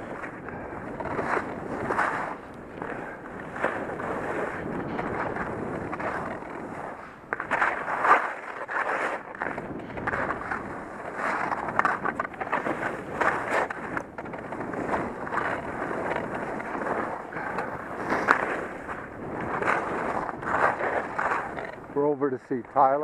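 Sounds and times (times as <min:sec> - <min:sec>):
skis scraping on snow: 0:00.0 - 0:23.0
wind on microphone: 0:00.0 - 0:23.0.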